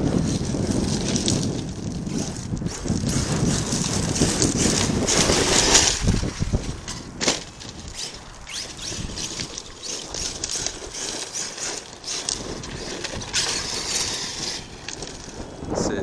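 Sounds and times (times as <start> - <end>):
faint crackles: 0.0 - 16.0
wind buffeting microphone: 0.0 - 16.0.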